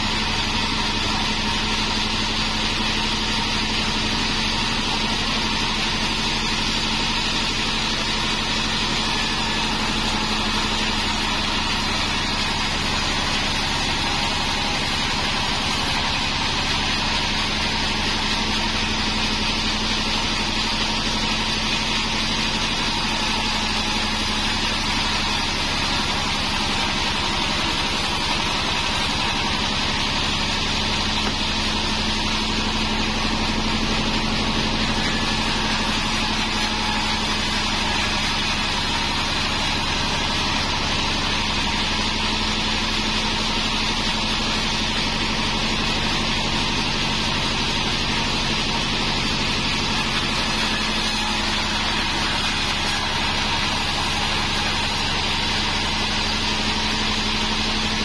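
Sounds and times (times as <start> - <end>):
bandsaw cutting through log: 0.0 - 58.0
machine hum: 0.0 - 58.0.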